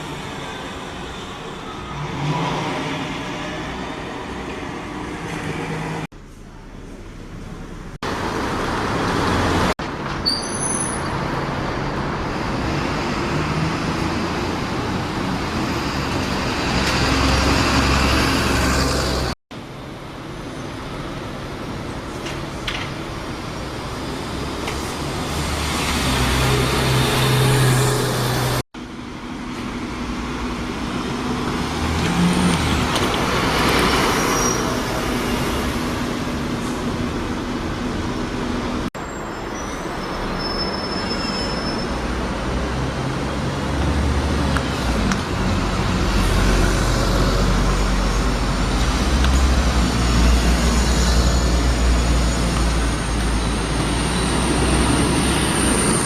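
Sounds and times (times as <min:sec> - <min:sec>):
buses and traffic passing: 0:00.0 - 0:56.0.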